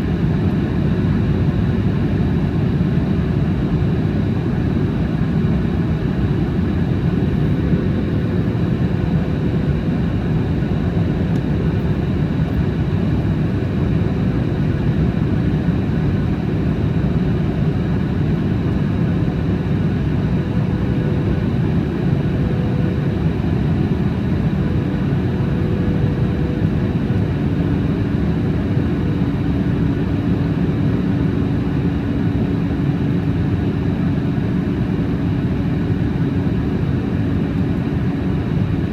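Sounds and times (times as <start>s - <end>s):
airliner engine and airflow noise: 0.0s - 38.9s.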